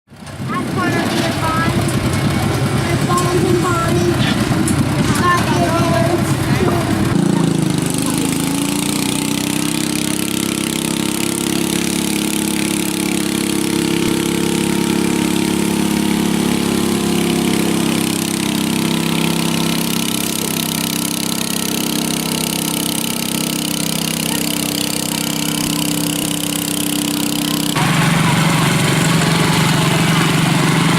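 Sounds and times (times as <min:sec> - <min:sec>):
tractor engine running: 0:00.1 - 0:30.9.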